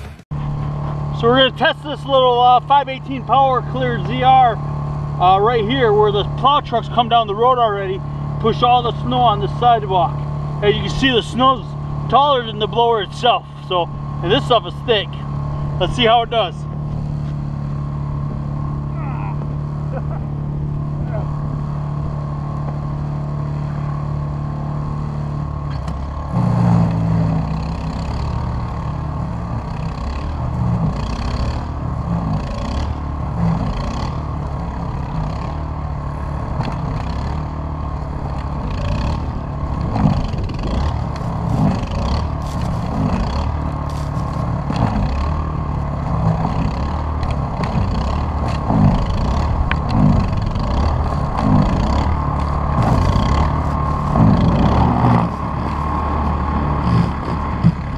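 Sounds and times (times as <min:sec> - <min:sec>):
snowblower engine running: 0:00.0 - 0:57.9.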